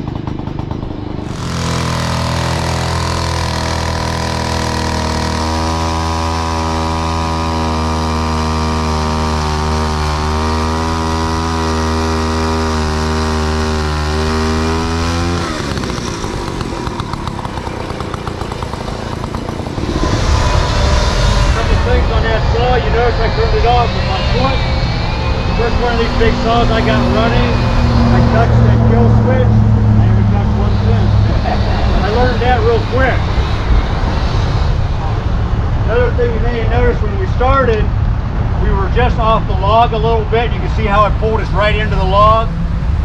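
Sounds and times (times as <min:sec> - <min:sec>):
chainsaw engine running: 0:00.0 - 0:37.8, 0:38.9 - 0:42.6.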